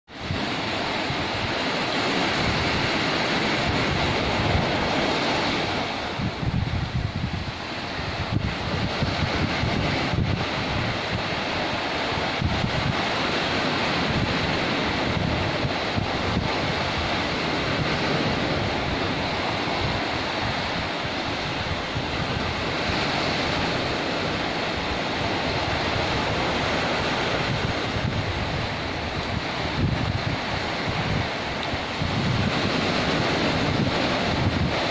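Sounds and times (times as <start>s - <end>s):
ocean waves washing up a beach: 0.1s - 34.9s
wind rumble on microphone: 0.1s - 34.9s.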